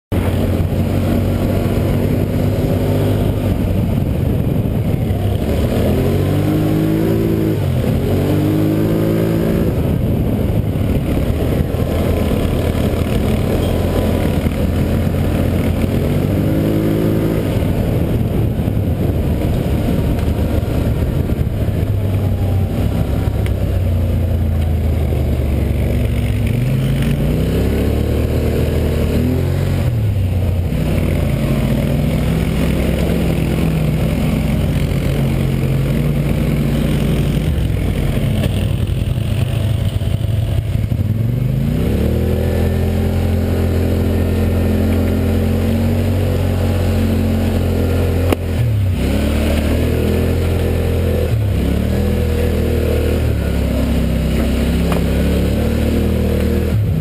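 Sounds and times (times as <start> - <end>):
atv engine revving: 0.1 - 57.0
steady rushing noise: 0.1 - 57.0.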